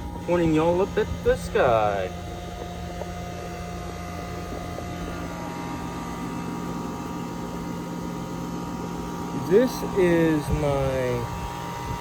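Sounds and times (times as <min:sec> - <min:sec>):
air conditioner unit humming: 0:00.0 - 0:12.0
condenser fan rushing: 0:00.0 - 0:12.0.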